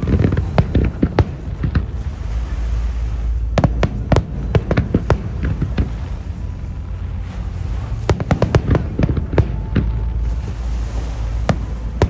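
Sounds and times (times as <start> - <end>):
fireworks bangs and crackles: 0.0 - 12.0
low rumble: 0.0 - 12.0.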